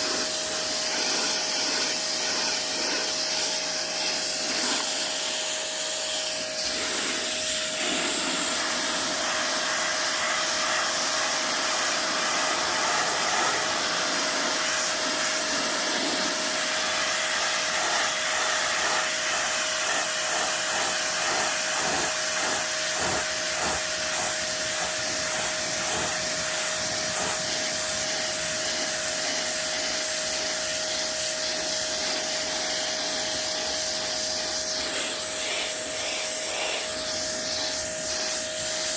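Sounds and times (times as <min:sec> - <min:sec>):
pressure washer motor whine: 0:00.0 - 0:38.9
water jet hissing and spattering: 0:00.0 - 0:38.9.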